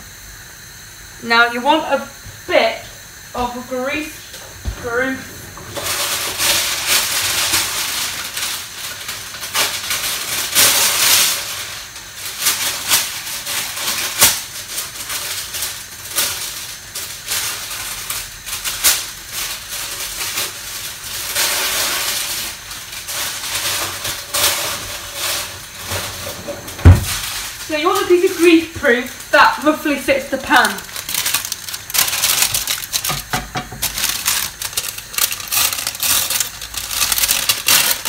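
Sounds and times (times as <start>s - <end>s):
pans hissing on a hob: 0.4s - 38.0s
paper tearing and crinkling: 4.7s - 28.6s, 29.6s - 38.0s.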